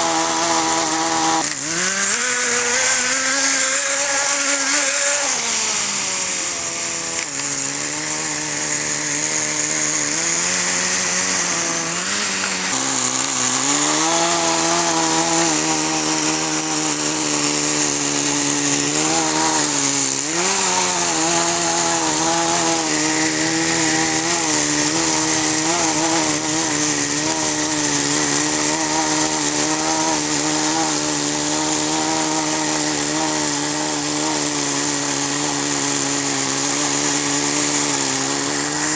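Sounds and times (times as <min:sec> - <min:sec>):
small nitro engine idling: 0:00.0 - 0:38.9.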